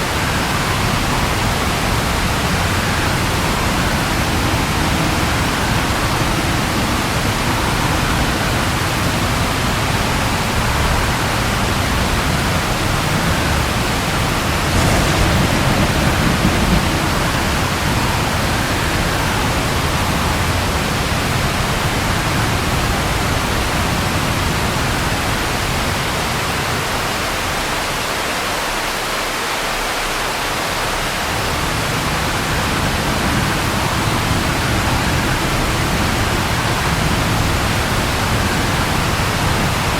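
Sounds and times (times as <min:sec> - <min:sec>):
thunder rumble: 0:00.0 - 0:27.4, 0:31.0 - 0:39.9
steady rain hiss: 0:00.0 - 0:39.9.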